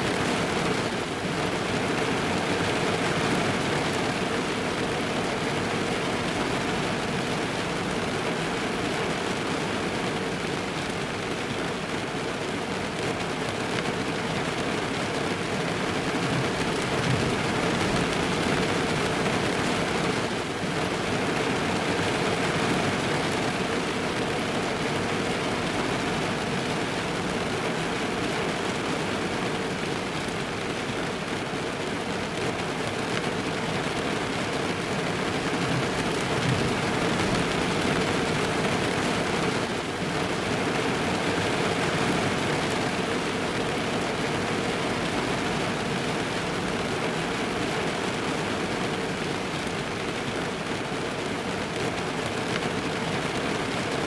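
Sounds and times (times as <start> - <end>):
rain pattering on car roof: 0.0 - 54.0.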